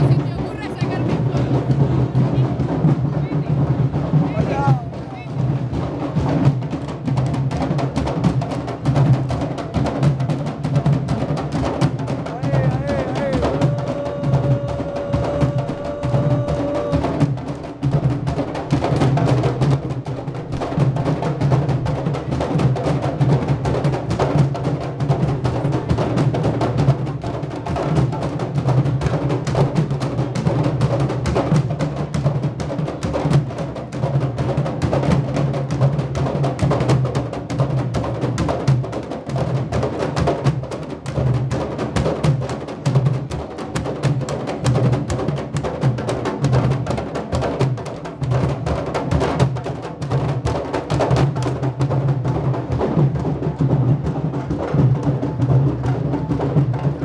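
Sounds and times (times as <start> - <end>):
many barrel drums drumming: 0.0 - 57.0.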